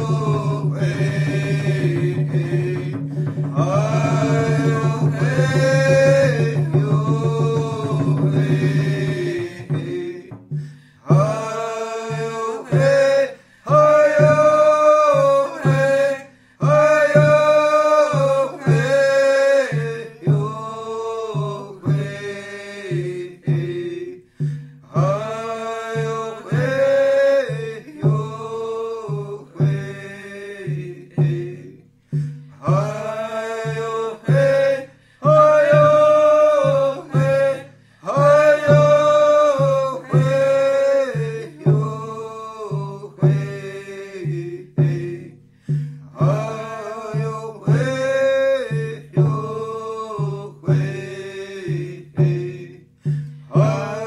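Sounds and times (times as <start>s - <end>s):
hand drum beat: 0.0s - 54.0s
voices singing a chant: 0.0s - 54.0s.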